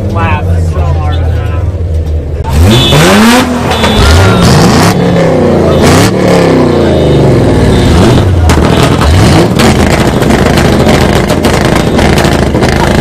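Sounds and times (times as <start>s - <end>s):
car engine revving: 2.3s - 13.0s.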